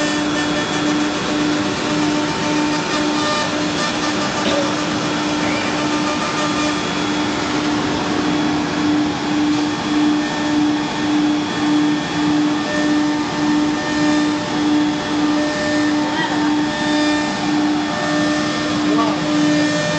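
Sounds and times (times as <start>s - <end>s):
cnc router cutting board: 0.0s - 19.9s
pulsing low hum: 0.0s - 19.9s.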